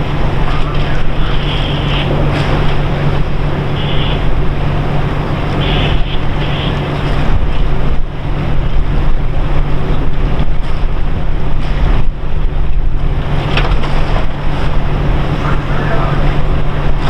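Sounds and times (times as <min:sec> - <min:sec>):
constant low hum: 0:00.0 - 0:17.0
wind buffeting microphone: 0:00.0 - 0:17.0.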